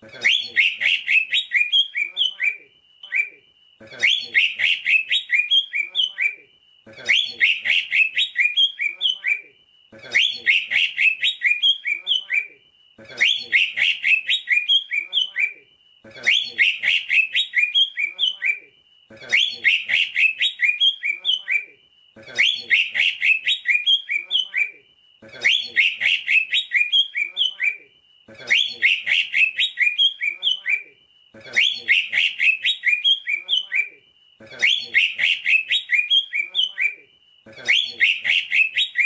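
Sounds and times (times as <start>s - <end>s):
bird song high chattering: 0.2s - 12.6s, 13.2s - 18.7s, 19.3s - 24.8s, 25.4s - 39.0s.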